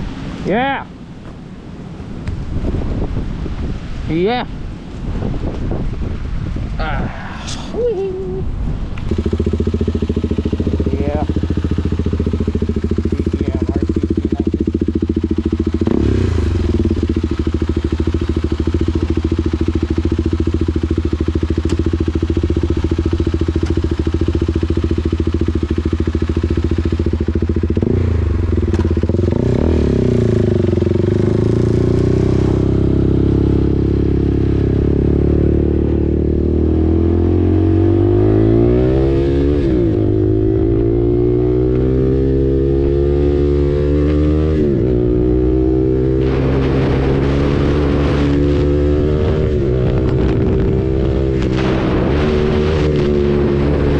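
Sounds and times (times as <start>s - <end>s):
motorcycle engine accelerating: 9.0s - 53.9s.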